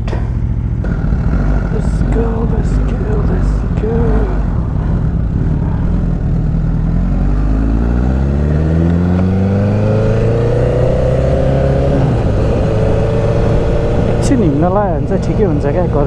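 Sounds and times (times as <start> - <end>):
motorcycle accelerating: 0.0 - 16.0.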